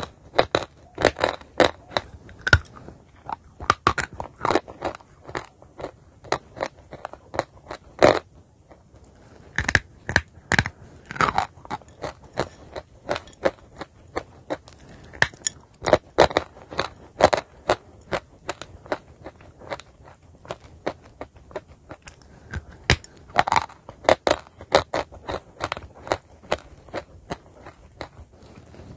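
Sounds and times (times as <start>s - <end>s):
chalk being chewed and crunched: 0.0s - 28.9s.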